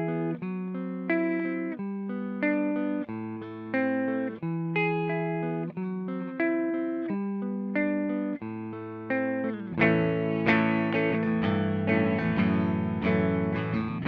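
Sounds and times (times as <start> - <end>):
overdriven electric guitar: 0.0 - 14.0.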